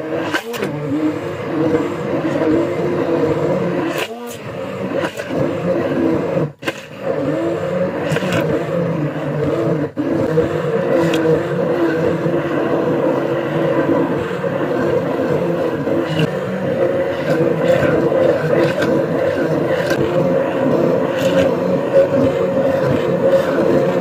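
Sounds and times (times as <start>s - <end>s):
stick blender motor running: 0.0s - 24.0s.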